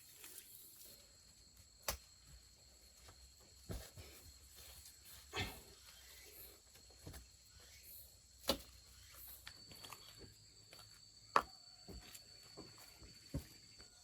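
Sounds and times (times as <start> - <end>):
faint outdoor background: 0.0 - 14.0
faint steady high tone: 0.0 - 14.0.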